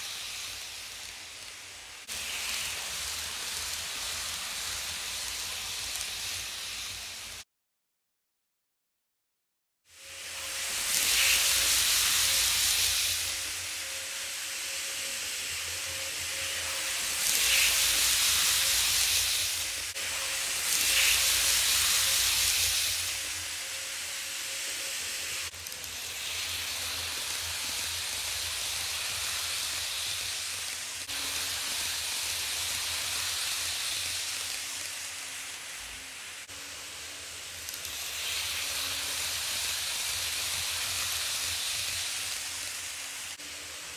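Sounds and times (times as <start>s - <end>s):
model train wheels hissing: 0.0s - 7.4s, 9.9s - 43.9s.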